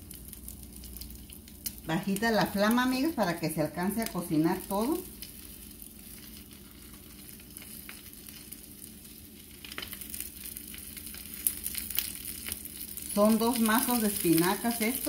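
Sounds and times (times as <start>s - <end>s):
omelette sizzling in frying pan: 0.0s - 15.0s.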